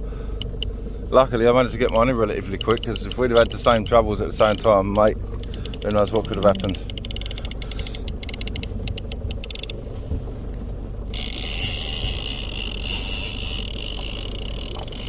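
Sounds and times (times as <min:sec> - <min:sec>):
constant low rumble: 0:00.0 - 0:15.0
fishing reel ratcheting clicks: 0:00.4 - 0:00.7, 0:01.8 - 0:09.8, 0:11.1 - 0:15.0.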